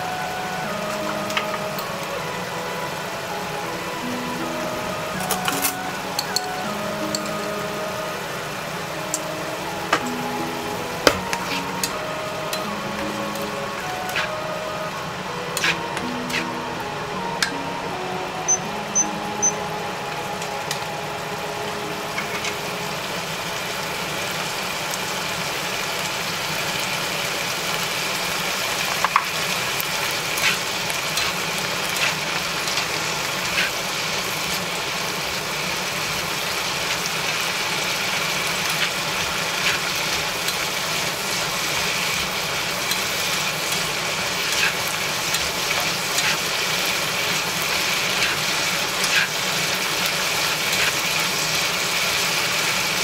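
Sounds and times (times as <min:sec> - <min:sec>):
vegetables sizzling in oil: 0:00.0 - 0:17.5, 0:18.4 - 0:53.0.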